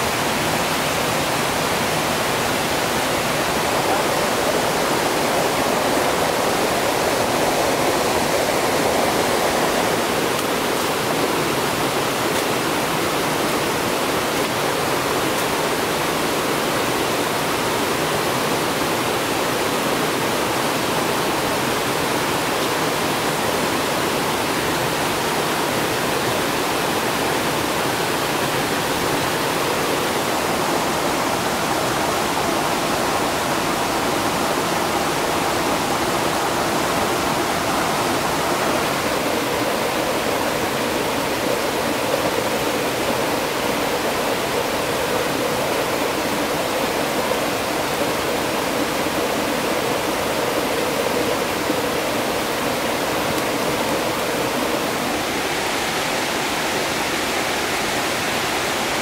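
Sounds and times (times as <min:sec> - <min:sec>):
rushing creek and waterfall: 0:00.0 - 0:59.0.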